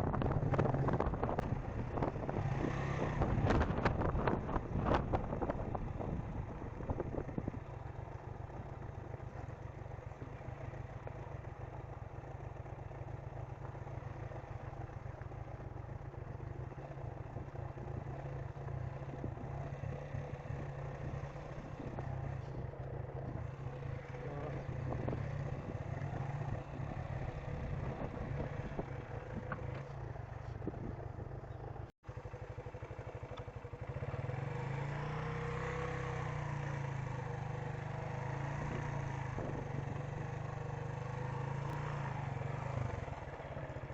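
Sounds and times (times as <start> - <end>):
motorcycle engine drone: 0.0 - 43.9
wind: 0.0 - 43.9.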